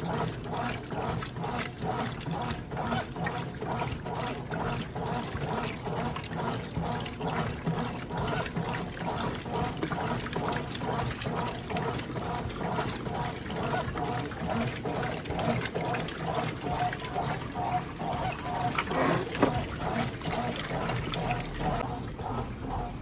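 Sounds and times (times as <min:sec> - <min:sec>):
washing machine hum: 0:00.0 - 0:23.0
water sloshing in washing machine: 0:00.0 - 0:23.0.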